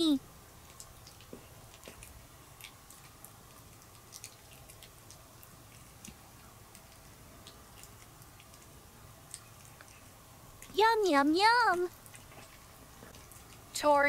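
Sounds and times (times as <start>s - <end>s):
dog teeth crunching chew: 0.6s - 10.8s, 11.7s - 13.8s.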